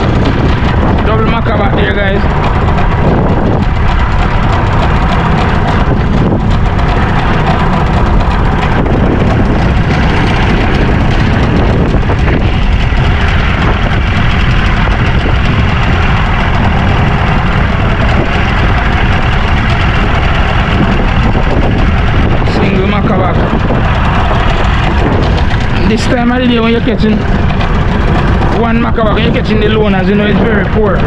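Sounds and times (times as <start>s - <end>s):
boat engine running: 0.0s - 31.0s
wind on microphone: 0.0s - 31.0s.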